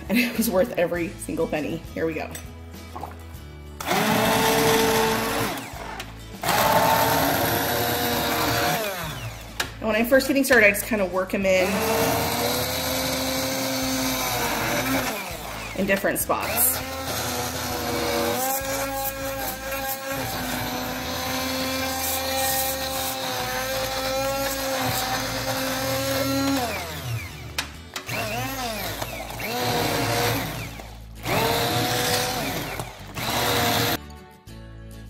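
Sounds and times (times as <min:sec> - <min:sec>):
immersion blender motor whirring: 0:03.8 - 0:09.6, 0:11.6 - 0:34.0.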